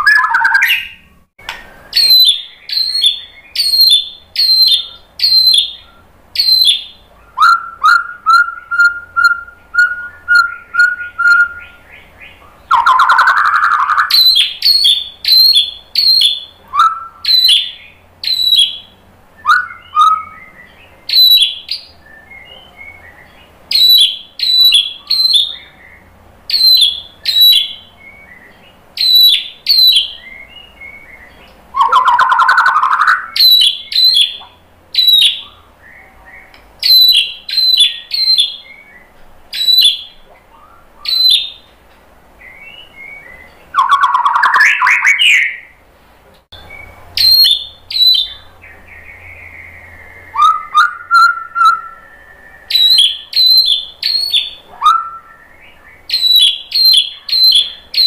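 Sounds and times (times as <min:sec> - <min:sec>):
bird whistling song: 0:00.0 - 0:41.8, 0:42.4 - 0:45.8, 0:46.6 - 0:58.0.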